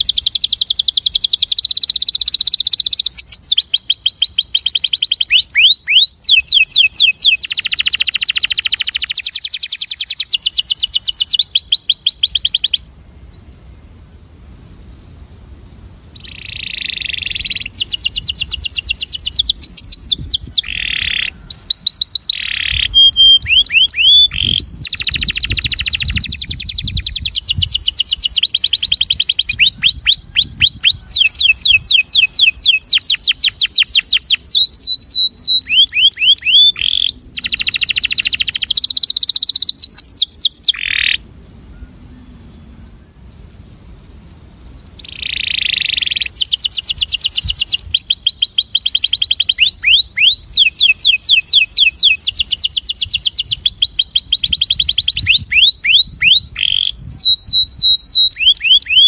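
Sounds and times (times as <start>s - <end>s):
canary singing fast trills: 0.0s - 13.9s, 16.0s - 42.7s, 43.3s - 59.0s.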